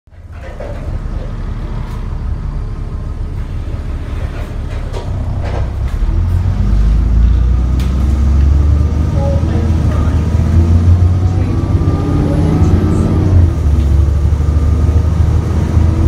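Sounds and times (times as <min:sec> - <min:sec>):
bus diesel engine drone: 0:00.1 - 0:16.0.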